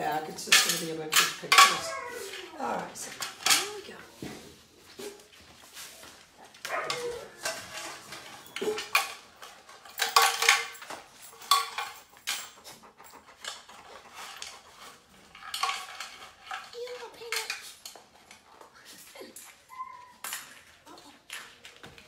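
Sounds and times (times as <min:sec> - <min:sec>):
dishes and utensils clattering: 0:00.0 - 0:04.0, 0:06.7 - 0:21.8.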